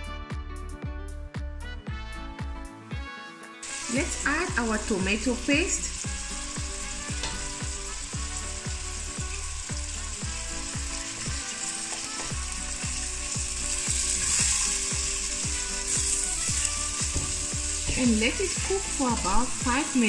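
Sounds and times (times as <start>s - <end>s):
background music with steady beat: 0.0s - 20.0s
food frying and sizzling: 3.6s - 20.0s.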